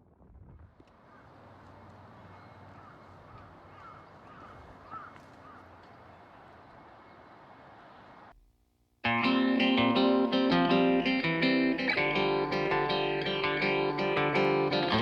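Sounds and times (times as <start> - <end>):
birds calling: 1.0 - 8.2, 9.1 - 15.0.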